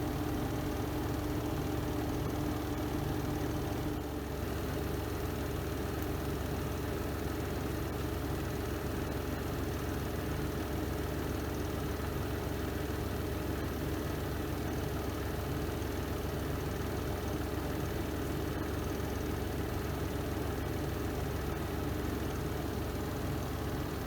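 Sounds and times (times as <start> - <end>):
washing machine spin motor humming: 0.0 - 24.0.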